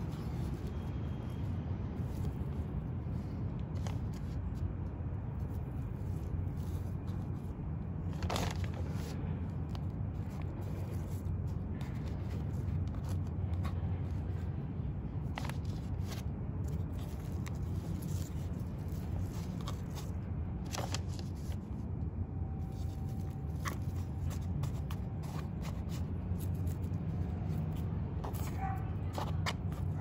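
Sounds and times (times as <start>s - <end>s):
low hum of city traffic: 0.0s - 30.0s.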